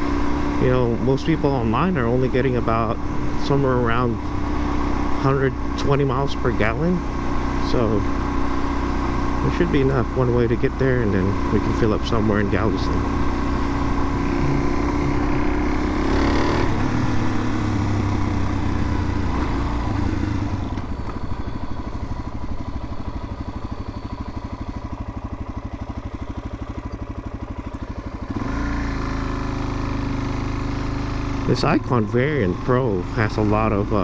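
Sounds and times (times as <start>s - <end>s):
motorcycle engine while riding: 0.0s - 34.0s.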